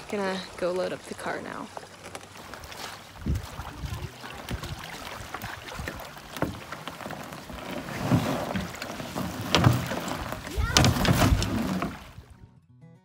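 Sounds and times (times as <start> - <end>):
small waves lapping: 0.0 - 12.4
wind: 0.0 - 12.7.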